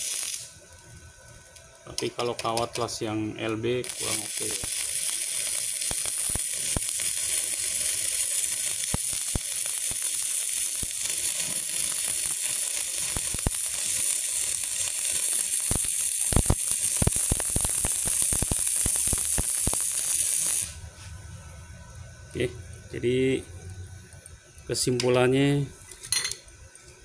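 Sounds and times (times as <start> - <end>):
welding arc crackling sizzle: 0.0 - 27.0.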